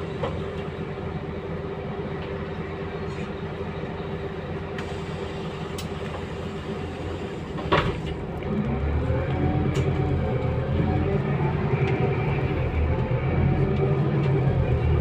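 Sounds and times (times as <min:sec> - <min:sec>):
bus engine hum: 0:00.0 - 0:15.0.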